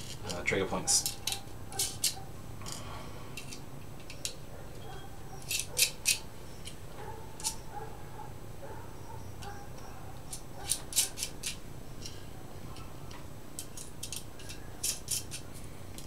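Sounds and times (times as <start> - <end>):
metallic clicks of small nuts: 0.0 - 6.8, 7.4 - 7.6, 9.4 - 12.2, 12.8 - 16.0.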